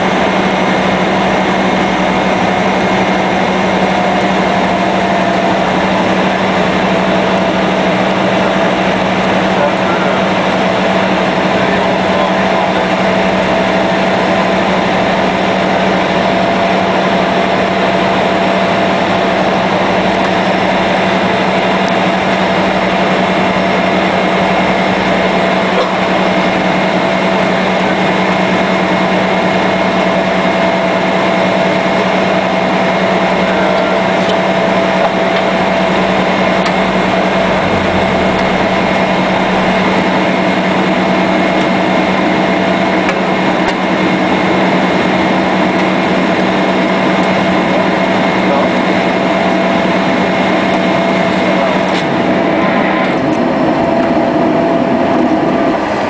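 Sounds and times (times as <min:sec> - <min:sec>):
high turbine whine: 0:00.0 - 0:56.0
propeller drone: 0:00.0 - 0:56.0.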